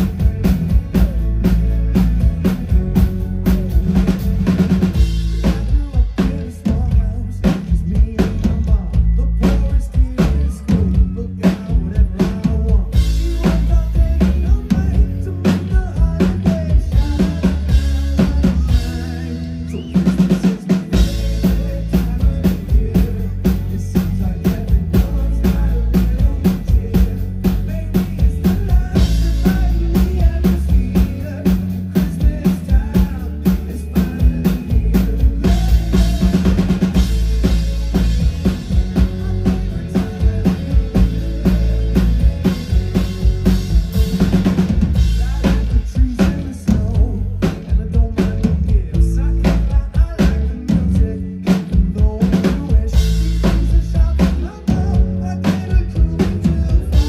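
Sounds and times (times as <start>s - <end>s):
bass line: 0.0s - 57.0s
driving drum kit: 0.0s - 57.0s
pop-rock band playing: 0.0s - 57.0s.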